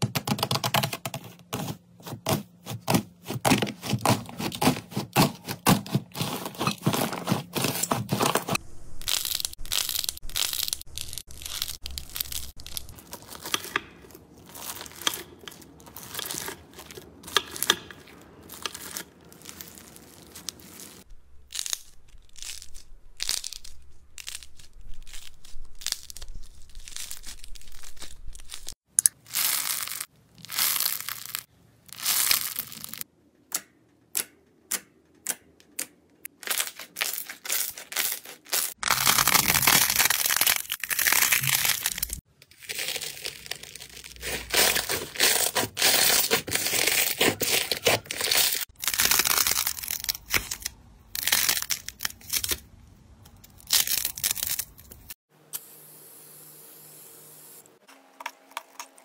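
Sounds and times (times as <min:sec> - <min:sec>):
crunchy slime crackling and popping: 0:02.9 - 0:33.1, 0:36.3 - 0:55.2.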